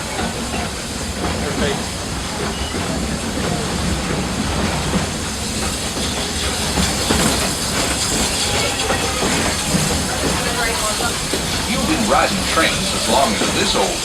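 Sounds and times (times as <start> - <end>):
hiss of steam: 0.0 - 14.0
train cars rumbling on rails: 0.0 - 14.0.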